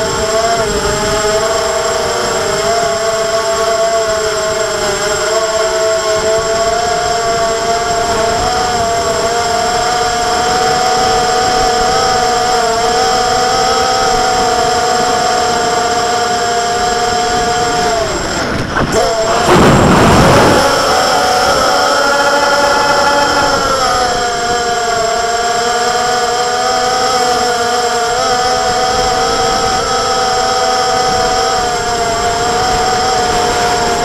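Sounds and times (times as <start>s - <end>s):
drone propellers whining: 0.0s - 34.0s
wind rushing on microphone: 0.0s - 34.0s.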